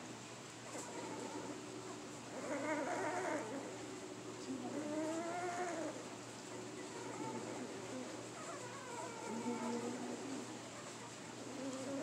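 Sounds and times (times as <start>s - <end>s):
puppy whining: 0.6s - 3.9s, 4.7s - 12.0s.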